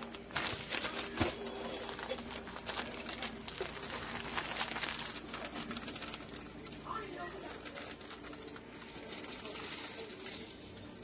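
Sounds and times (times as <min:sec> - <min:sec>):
foil pans clicking and crinkling: 0:00.0 - 0:11.0.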